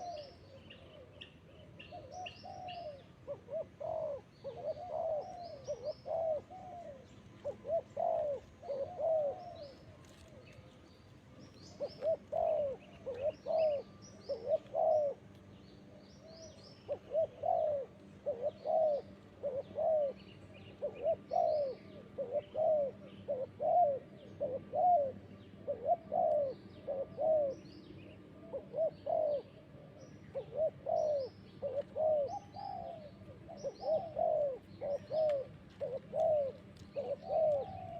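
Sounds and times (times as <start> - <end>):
doves cooing: 0.0 - 37.9
small birds chirping: 0.0 - 37.9.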